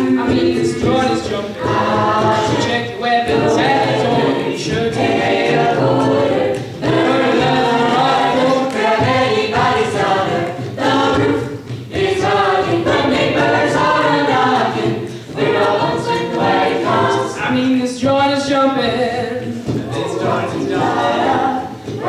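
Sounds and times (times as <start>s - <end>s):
jazz choir singing a cappella: 0.0s - 22.0s.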